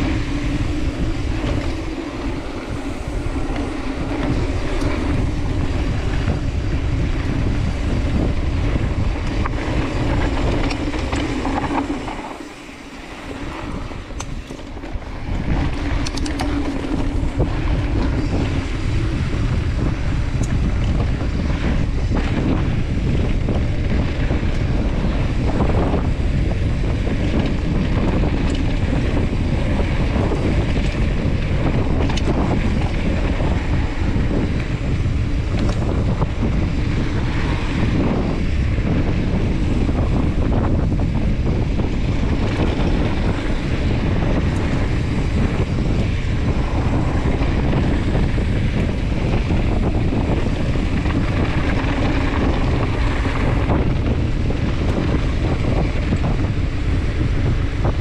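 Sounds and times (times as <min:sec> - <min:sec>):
bike clicks and rattles: 0:00.0 - 0:58.0
tyres running over dirt: 0:00.0 - 0:58.0
wind buffeting microphone: 0:00.0 - 0:58.0.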